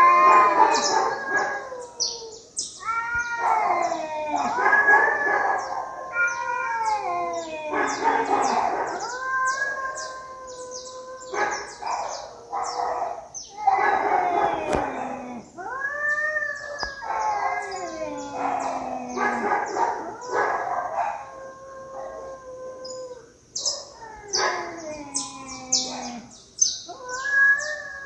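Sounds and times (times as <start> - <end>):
cats yowling: 0.0 - 28.0.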